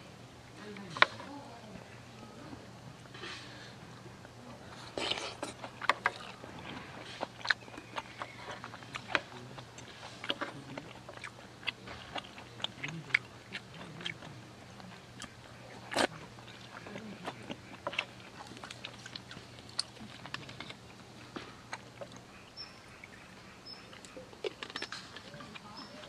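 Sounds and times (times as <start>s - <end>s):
chewing and biting: 4.2s - 26.0s.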